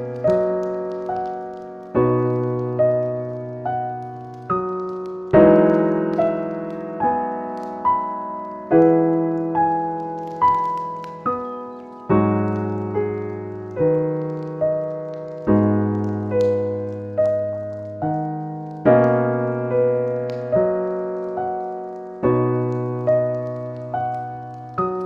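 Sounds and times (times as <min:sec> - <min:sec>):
slow gentle piano music: 0:00.0 - 0:25.0.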